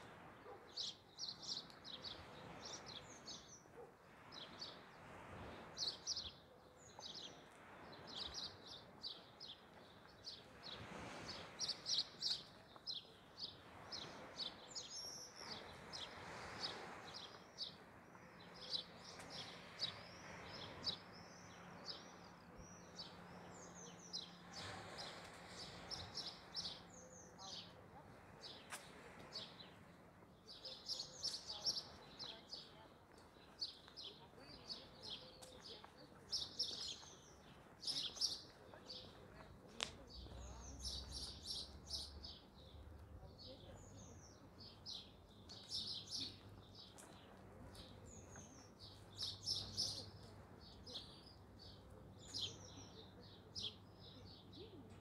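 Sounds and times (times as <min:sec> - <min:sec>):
small birds chirping: 0:00.3 - 0:05.0, 0:05.8 - 0:55.0.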